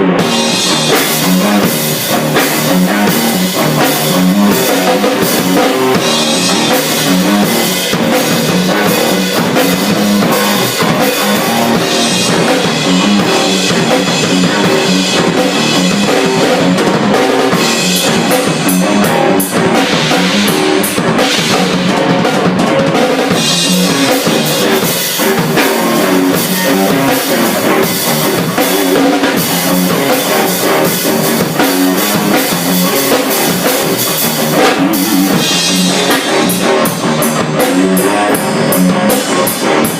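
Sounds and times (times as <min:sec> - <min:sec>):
drum kit playing: 0:00.0 - 0:39.9
electric guitar playing: 0:00.0 - 0:39.9.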